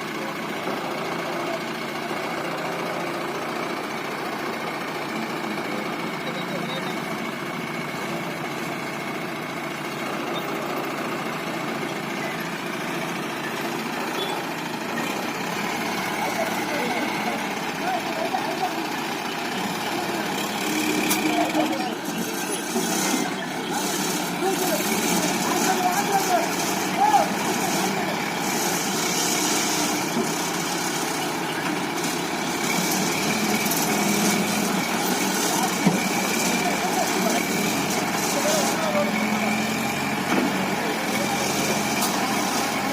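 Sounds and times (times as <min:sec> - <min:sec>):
diesel engine running at low revs: 0:00.0 - 0:42.9.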